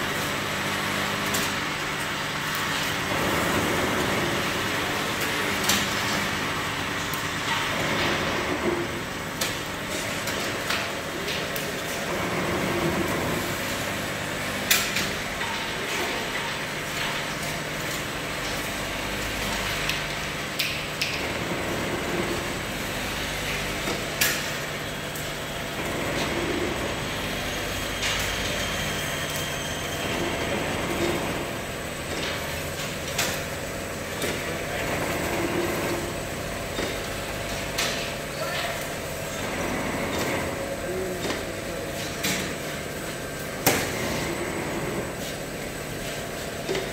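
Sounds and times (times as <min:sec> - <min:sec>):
bottling machine hum: 0:00.0 - 0:46.9.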